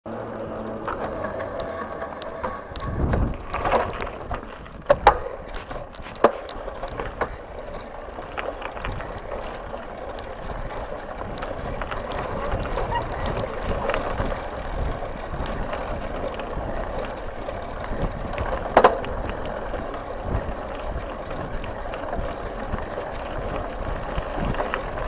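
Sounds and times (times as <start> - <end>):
bicycle rattling and clicking: 0.0 - 25.0
bicycle clunks over bumps: 0.1 - 25.0.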